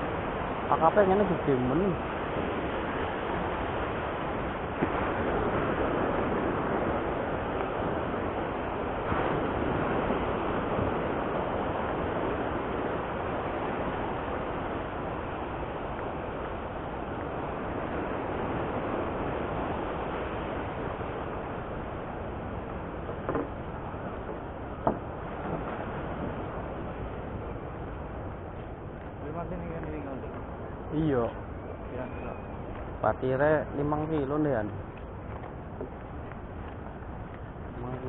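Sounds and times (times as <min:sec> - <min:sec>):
breaking surf: 0:00.0 - 0:38.0
wind: 0:00.0 - 0:38.0.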